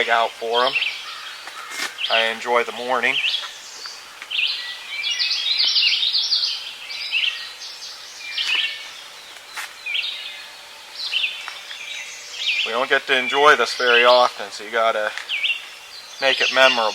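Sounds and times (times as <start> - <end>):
songbirds singing: 0.0 - 16.9.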